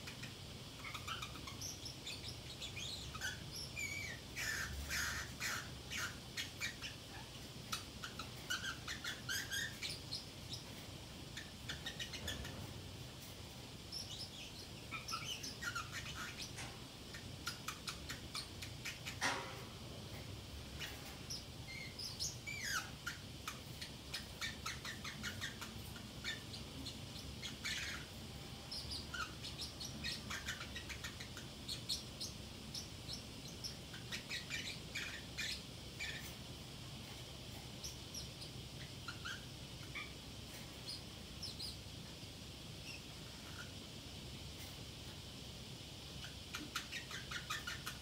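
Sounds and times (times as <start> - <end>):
faint steady hum: 0.0 - 48.0
parrot chirping: 0.0 - 48.0.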